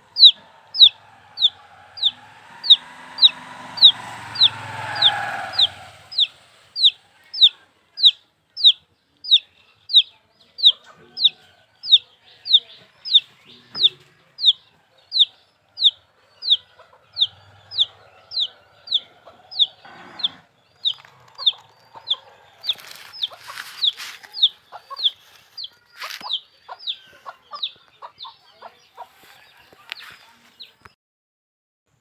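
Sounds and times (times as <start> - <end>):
chicks peeping: 0.0 - 30.8.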